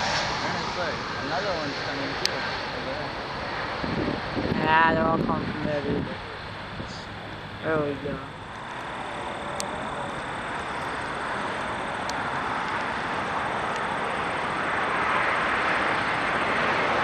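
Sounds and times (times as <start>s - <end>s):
faint high whine: 0.0s - 17.0s
jet airliner engine roar: 0.0s - 17.0s.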